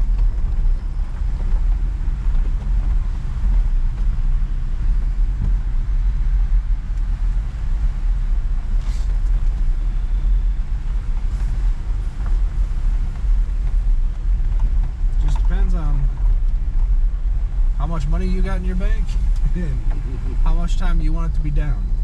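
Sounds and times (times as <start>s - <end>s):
vehicle engine and drivetrain rumble: 0.0s - 22.0s.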